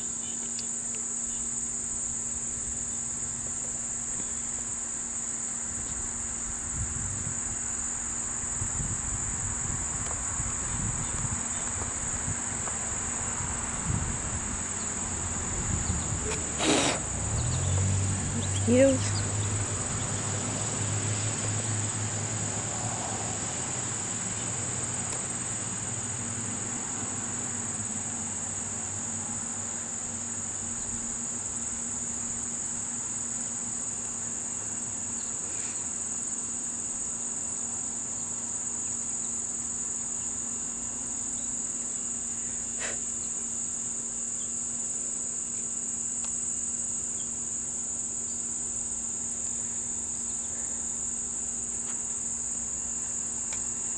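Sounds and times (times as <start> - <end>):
insects droning shrilly: 0.0 - 53.9.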